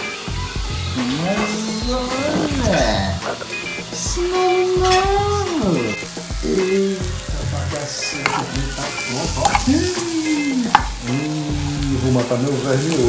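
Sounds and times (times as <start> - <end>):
music playing: 0.0 - 13.0
shrimp sizzling in a pan: 0.0 - 13.0.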